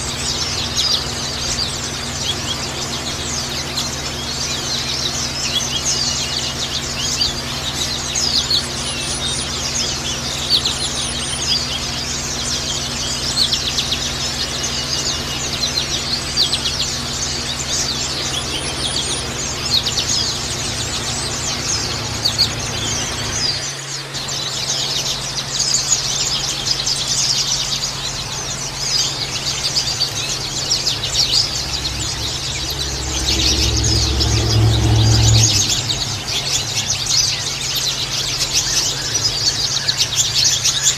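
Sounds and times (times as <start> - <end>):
steady low hum: 0.0 - 40.6
birds twittering: 0.0 - 40.9.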